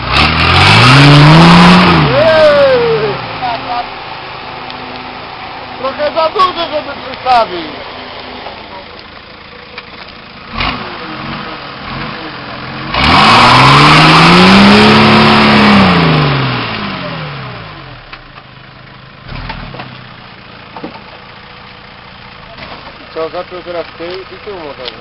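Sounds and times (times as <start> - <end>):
diesel engine revving: 0.0 - 25.0.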